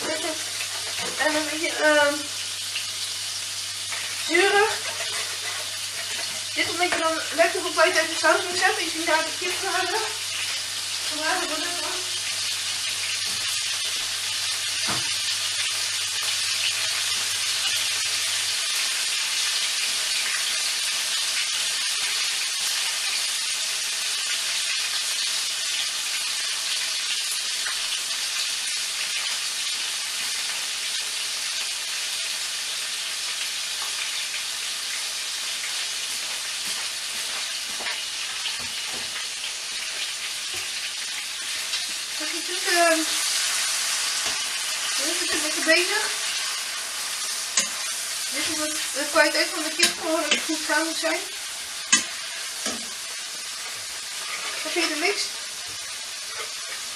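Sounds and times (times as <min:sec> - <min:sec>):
chicken sizzling in a pan: 0:00.0 - 0:56.9.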